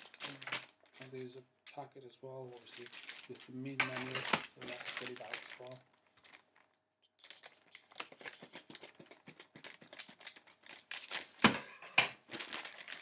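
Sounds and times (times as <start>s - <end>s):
plastic crinkling and rustling: 0.0s - 13.0s.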